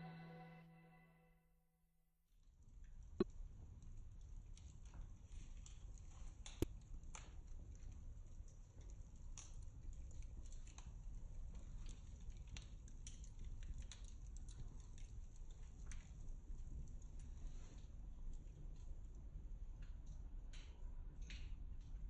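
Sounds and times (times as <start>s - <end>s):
light clicks and taps: 3.2s - 22.0s.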